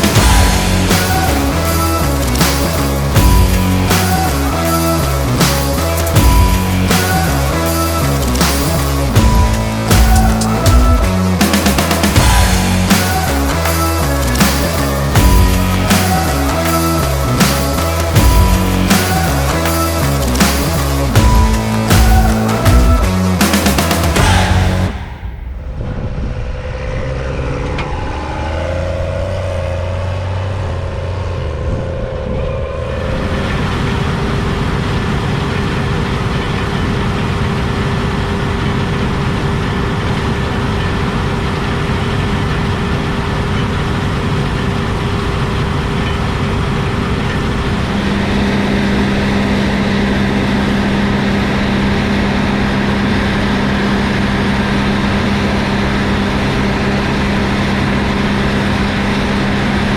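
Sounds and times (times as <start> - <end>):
combine harvester mechanical drone: 0.0 - 59.9
deeper hum: 0.0 - 59.9.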